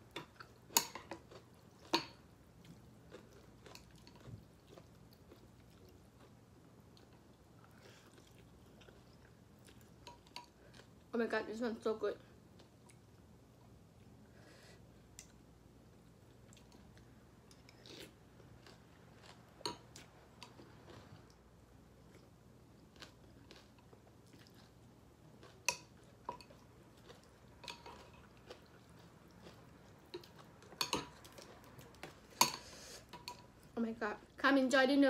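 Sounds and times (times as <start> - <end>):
person chewing food: 0.0 - 11.1, 16.1 - 33.8.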